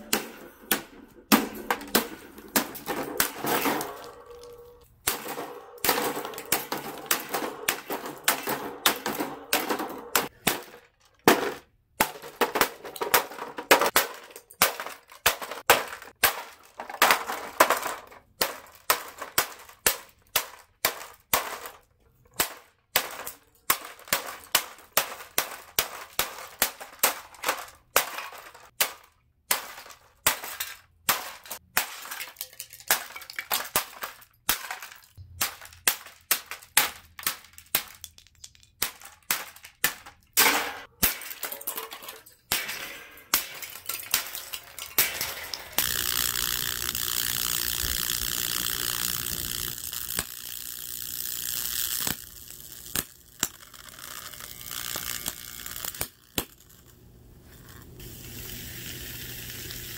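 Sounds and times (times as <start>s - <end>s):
plastic housing breaking: 0.0s - 48.4s
table fan being smashed: 0.0s - 50.3s
metal parts clanging: 0.0s - 50.4s.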